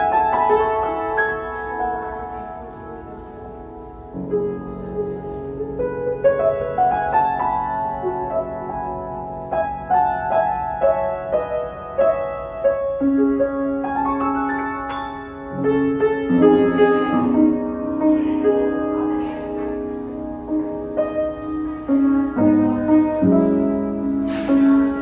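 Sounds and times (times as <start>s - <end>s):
solo piano melody: 0.0s - 25.0s.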